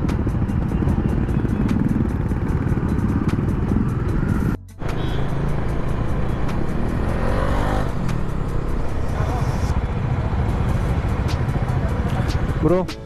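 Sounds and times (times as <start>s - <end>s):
motorcycle engine running: 0.0s - 13.0s
wind and road rumble: 0.0s - 13.0s.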